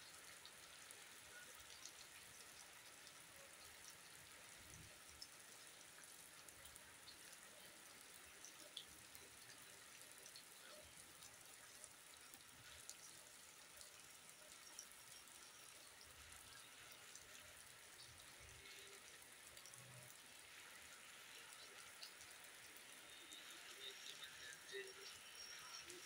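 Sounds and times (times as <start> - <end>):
rain on wet ground and foliage: 0.0 - 26.0.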